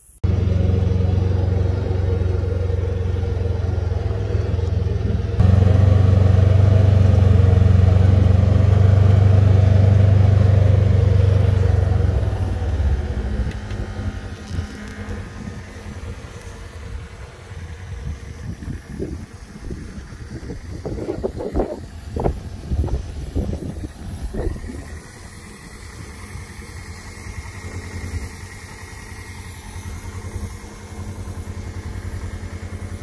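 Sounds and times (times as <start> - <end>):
utility vehicle engine running: 0.2 - 33.0.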